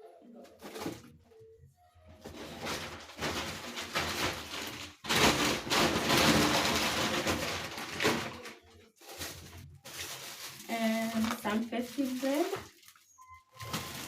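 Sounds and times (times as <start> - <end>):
plastic bag rustling and crinkling: 2.0 - 14.0.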